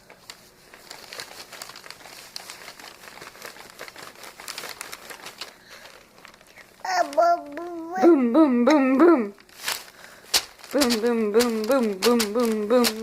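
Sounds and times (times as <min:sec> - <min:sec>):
light crinkling and rustling: 0:00.0 - 0:08.1, 0:09.4 - 0:13.0.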